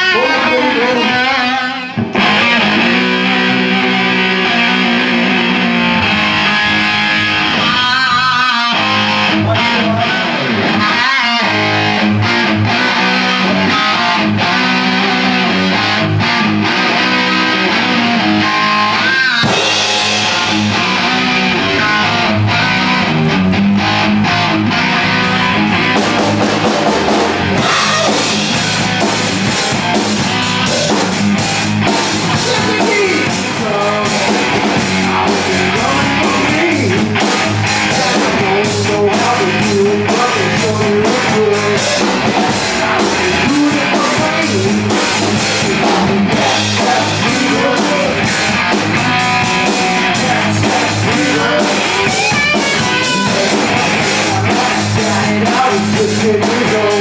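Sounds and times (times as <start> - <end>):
drums: 0.0 - 57.0
electric guitar rock riff: 0.0 - 57.0
rock band playing: 0.0 - 57.0.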